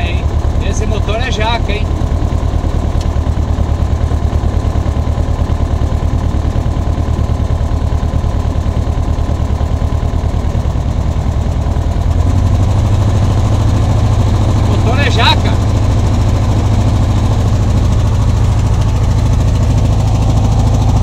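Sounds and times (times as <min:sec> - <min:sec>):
aircraft piston engine idling: 0:00.0 - 0:21.0.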